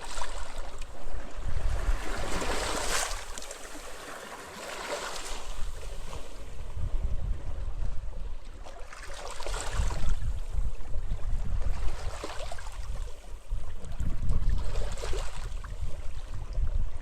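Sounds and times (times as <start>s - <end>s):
wind buffeting microphone: 0.0s - 3.4s, 5.4s - 8.6s, 9.4s - 17.0s.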